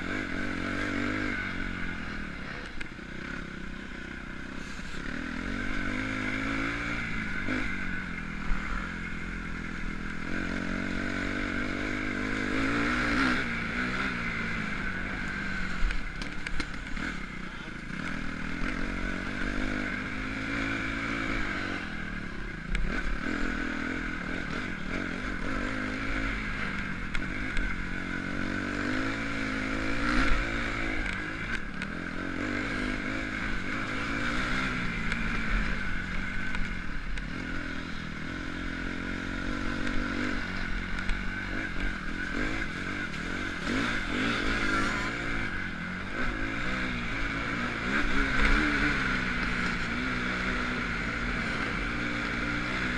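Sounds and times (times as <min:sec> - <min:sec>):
motocross engine revving: 0:00.0 - 0:52.9.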